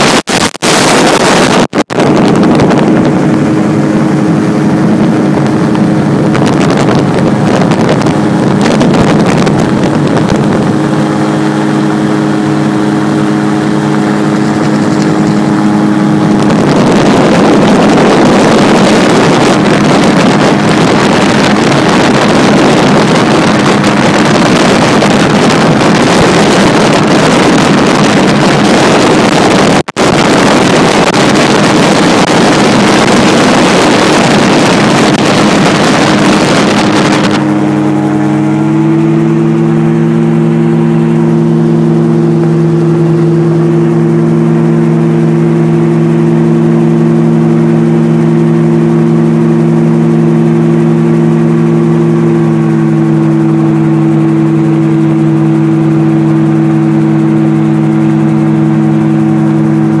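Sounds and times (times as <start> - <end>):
gyroplane engine drone: 0.0 - 60.0
wind rush on microphone: 0.0 - 60.0.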